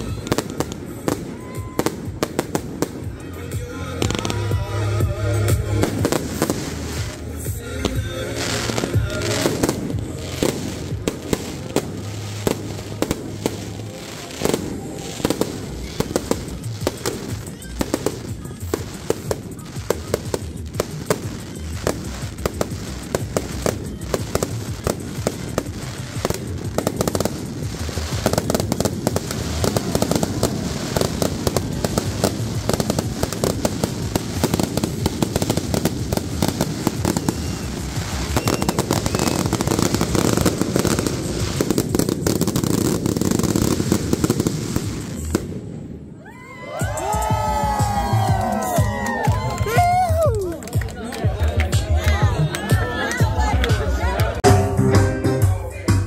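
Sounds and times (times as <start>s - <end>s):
fireworks bangs and crackles: 0.0s - 54.4s
music playing: 0.0s - 56.0s.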